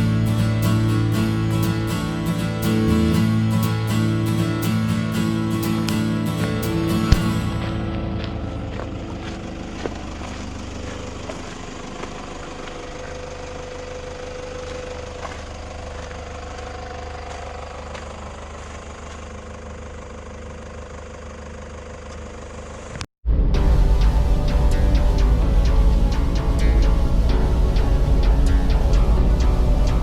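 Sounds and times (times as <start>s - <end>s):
van engine humming: 0.0s - 30.0s.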